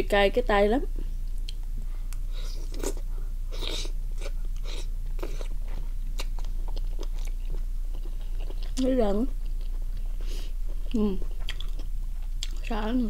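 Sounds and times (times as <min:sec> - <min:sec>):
steady low hum: 0:00.0 - 0:13.0
person chewing: 0:01.4 - 0:12.7.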